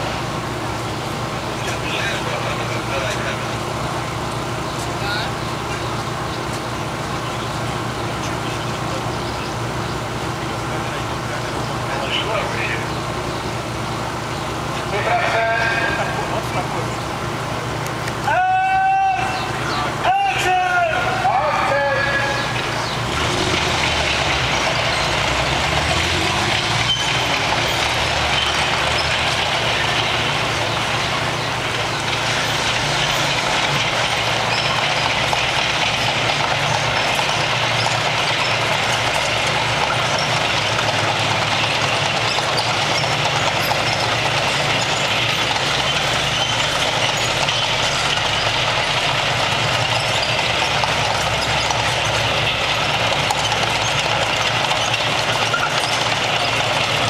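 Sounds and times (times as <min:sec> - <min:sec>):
steel tracks clattering: 0:00.0 - 0:57.0
tank diesel engine running: 0:00.0 - 0:57.0.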